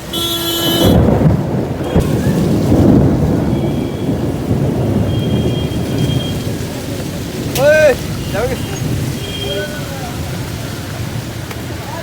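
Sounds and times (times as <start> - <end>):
sharp thunder crack: 0.0 - 11.8
rain: 0.0 - 12.0
thunder rumbling: 0.0 - 12.0.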